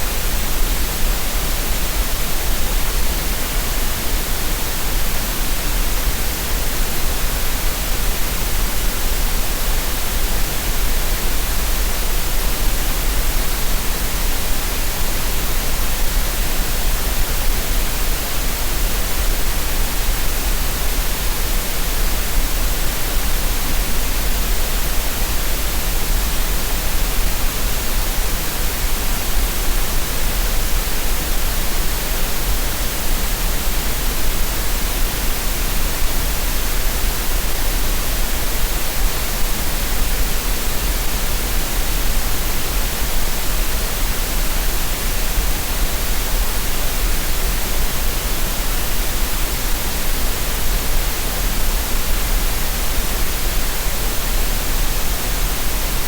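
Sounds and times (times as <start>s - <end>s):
steady green noise hiss: 0.0s - 56.0s.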